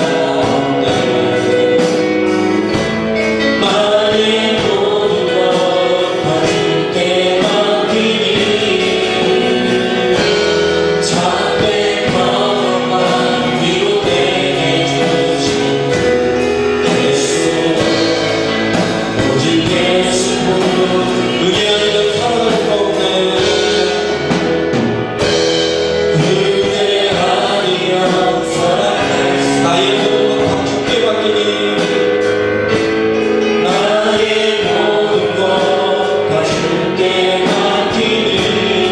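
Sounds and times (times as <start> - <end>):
congregation and band singing worship: 0.0 - 38.9
drums beating: 0.0 - 38.9.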